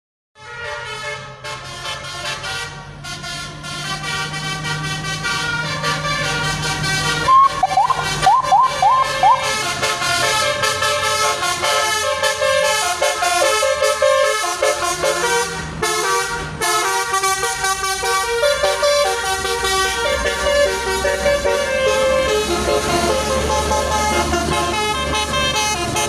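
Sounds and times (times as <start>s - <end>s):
musical bus horn playing a tune: 0.4s - 26.0s.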